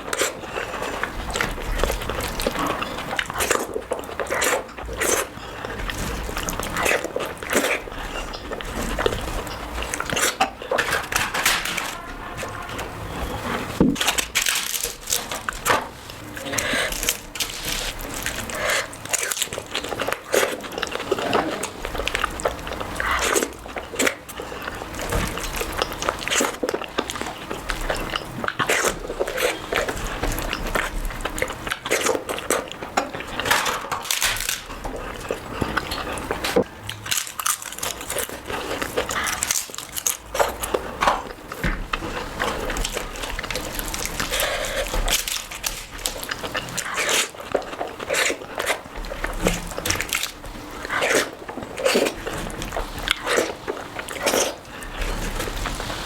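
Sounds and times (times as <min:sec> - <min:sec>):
chewing and biting: 0:00.0 - 0:56.0.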